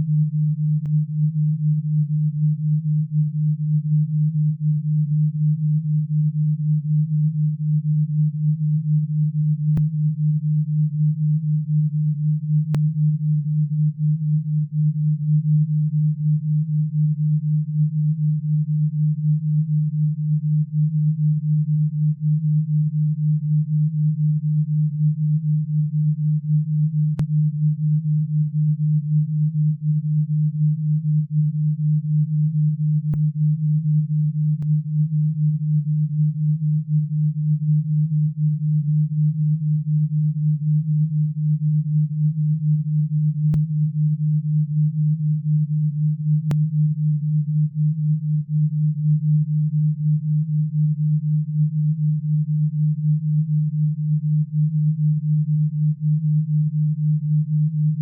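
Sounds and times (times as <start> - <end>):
low wavering electronic tone: 0.0 - 58.0.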